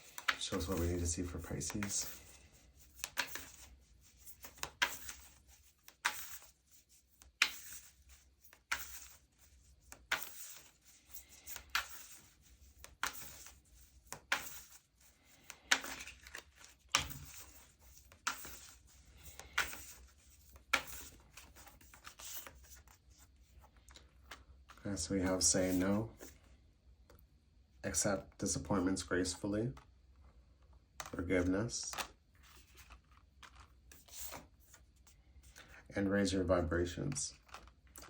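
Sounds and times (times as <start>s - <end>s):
cards shuffled by hand: 0.0s - 26.4s, 31.0s - 35.8s, 37.0s - 38.0s.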